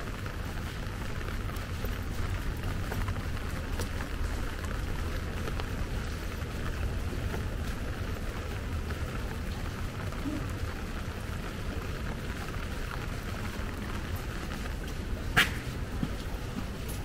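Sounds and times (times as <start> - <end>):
rain falling on pavement: 0.0 - 17.0.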